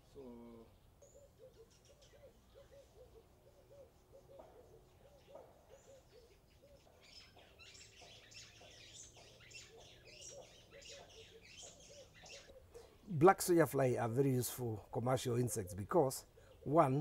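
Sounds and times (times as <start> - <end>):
higher bird chirping: 0.0 - 17.0.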